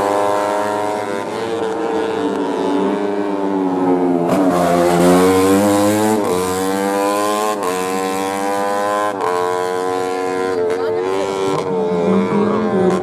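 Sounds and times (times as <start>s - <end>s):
racing motorcycle engine accelerating: 0.0s - 13.0s.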